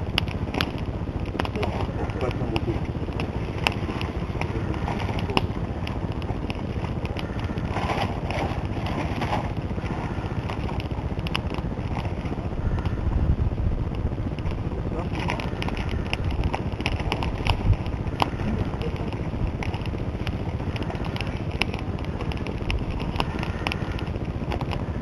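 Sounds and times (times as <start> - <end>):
campfire crackling and popping: 0.0 - 25.0
fire low rushing: 0.0 - 25.0.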